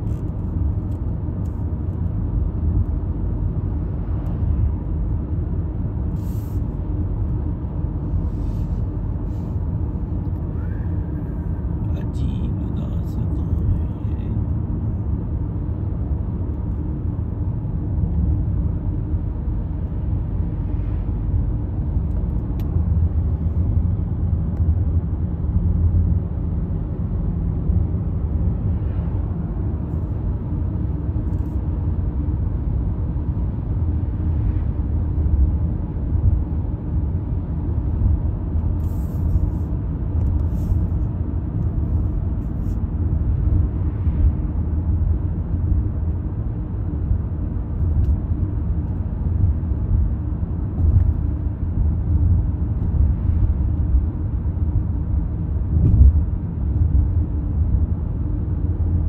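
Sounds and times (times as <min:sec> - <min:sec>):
car cabin road drone: 0:00.0 - 0:59.0.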